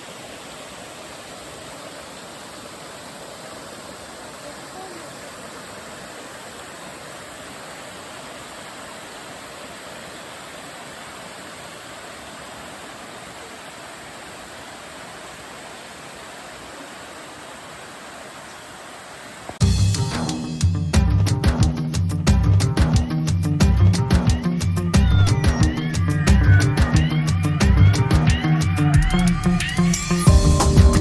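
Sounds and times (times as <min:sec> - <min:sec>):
water rushing: 0:00.0 - 0:19.7, 0:23.1 - 0:31.0.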